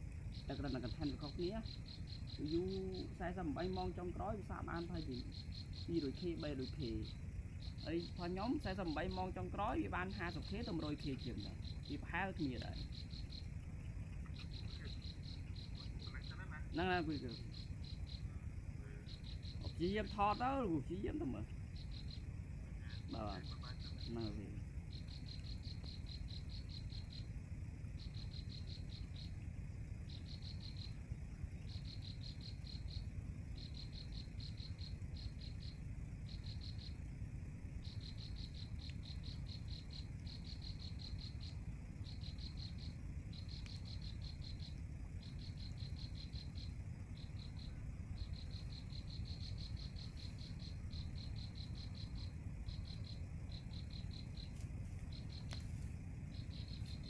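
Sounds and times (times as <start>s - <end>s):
insect trilling: 0.0s - 57.0s.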